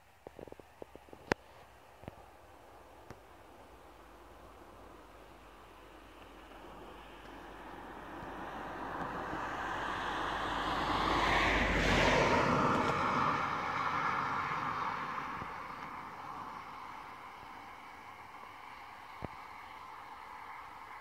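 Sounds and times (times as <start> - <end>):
car passing: 2.8 - 21.0.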